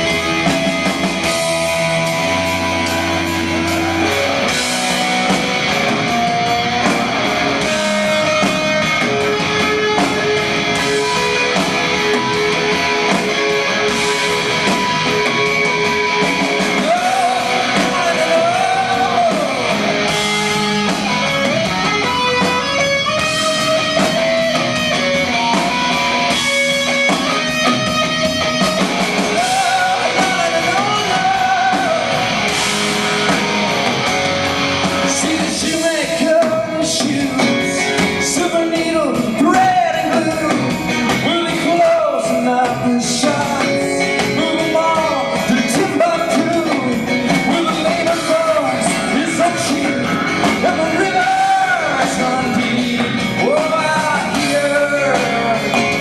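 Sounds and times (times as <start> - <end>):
electric guitar: 0.0 - 56.0
rock band playing live: 0.0 - 56.0.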